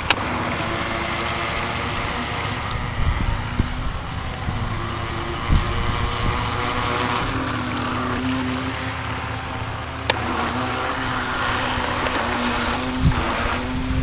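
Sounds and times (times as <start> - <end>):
toy boat electric motor humming: 0.0 - 14.0.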